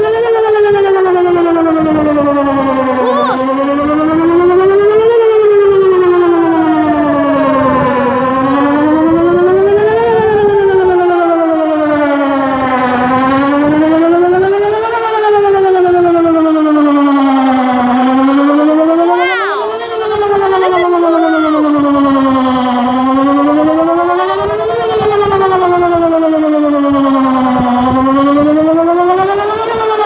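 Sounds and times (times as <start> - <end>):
warning siren wailing: 0.0 - 30.0.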